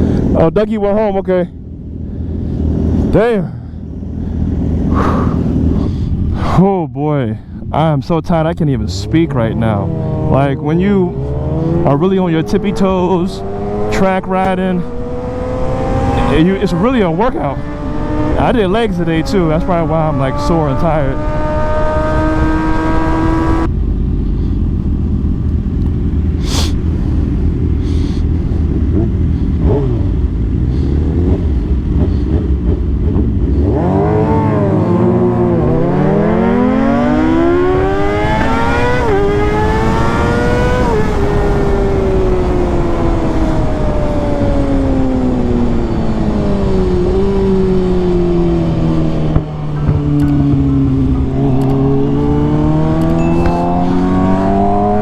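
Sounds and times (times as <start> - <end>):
wind rumble: 1.5 - 55.0
motorcycle engine revving: 7.7 - 55.0.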